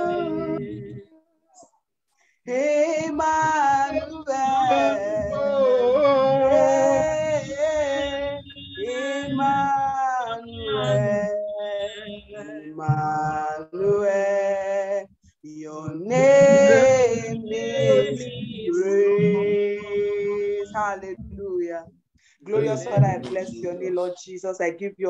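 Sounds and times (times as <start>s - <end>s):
woman singing unaccompanied: 0.0s - 1.1s, 2.5s - 14.8s, 15.6s - 21.9s, 22.5s - 24.2s.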